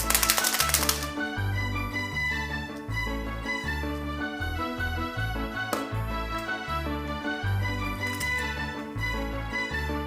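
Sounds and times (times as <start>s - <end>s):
background music with bouncy bass: 0.0s - 10.0s.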